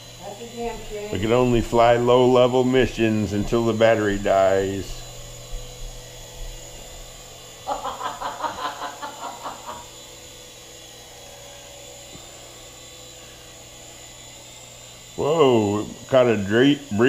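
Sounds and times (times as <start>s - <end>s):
toy helicopter rotor whirring: 0.0s - 17.0s.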